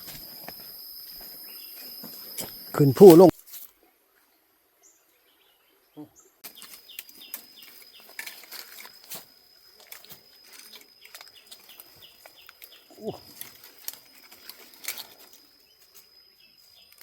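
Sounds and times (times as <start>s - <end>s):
high-pitched insect drone: 0.0s - 3.3s, 6.6s - 17.0s.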